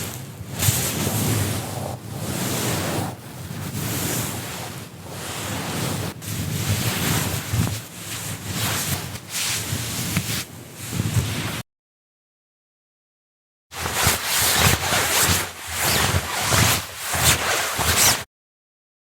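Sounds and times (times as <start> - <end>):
fabric swishing through air: 0.0 - 11.6, 13.8 - 18.3.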